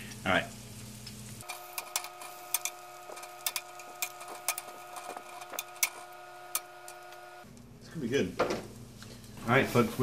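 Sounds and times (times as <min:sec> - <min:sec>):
steady hum with held tones: 0:00.0 - 0:08.1
vegetables crackling on metal baking sheet: 0:00.2 - 0:10.0.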